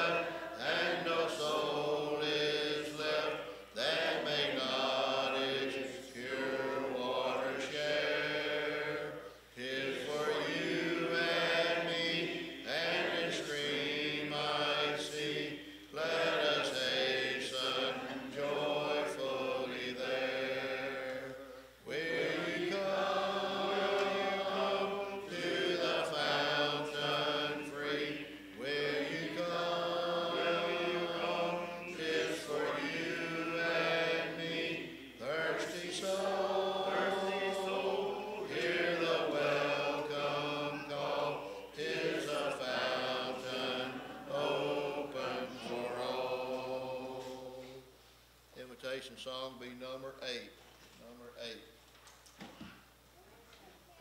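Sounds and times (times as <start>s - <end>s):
congregation singing a hymn: 0.0s - 48.0s.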